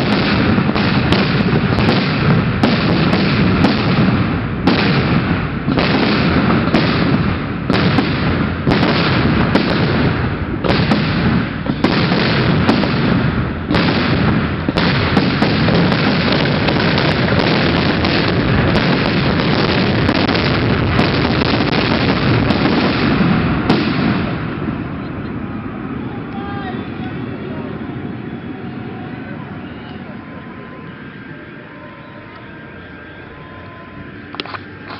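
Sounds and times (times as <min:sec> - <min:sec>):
fireworks bursts and booms: 0:00.0 - 0:34.9.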